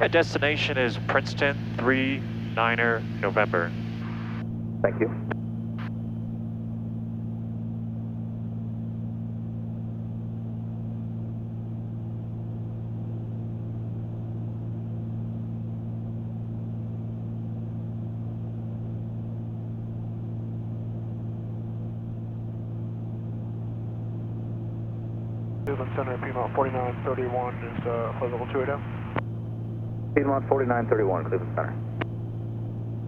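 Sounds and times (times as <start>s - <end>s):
propeller aircraft engines droning: 0.0s - 7.6s, 10.7s - 33.0s.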